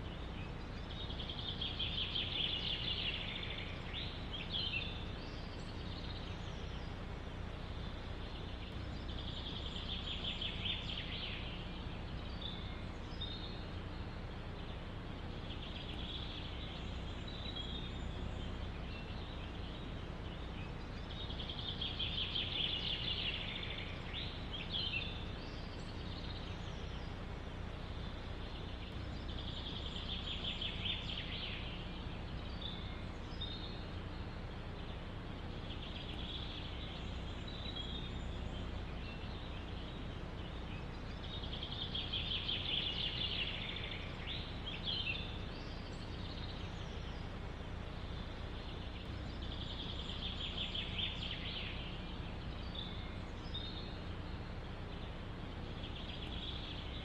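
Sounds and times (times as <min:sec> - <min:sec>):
low rumble of wind: 0:00.0 - 0:57.0
songbirds trilling and chirping: 0:00.0 - 0:57.0.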